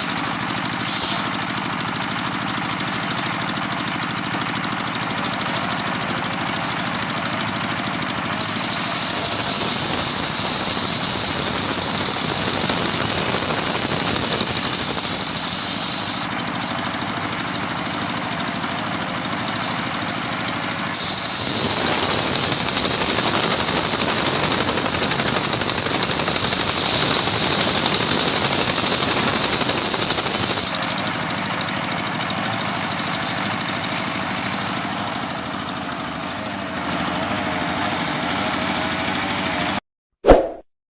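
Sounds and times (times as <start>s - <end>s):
saw cutting through trunk: 0.0s - 39.8s
sawmill engine running: 0.0s - 39.8s.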